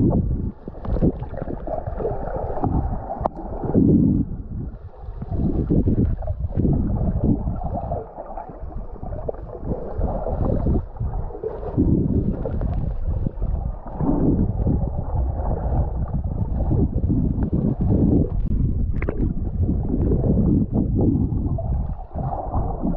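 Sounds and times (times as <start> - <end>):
muffled underwater rumbling: 0.0 - 22.9.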